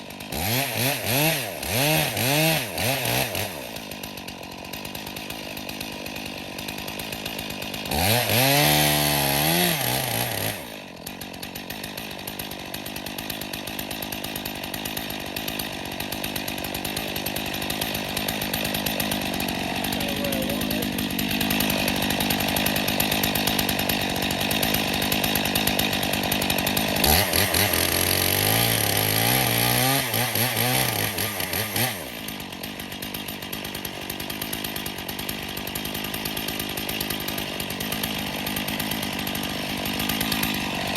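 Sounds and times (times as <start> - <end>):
chainsaw cutting tree: 0.0 - 40.9.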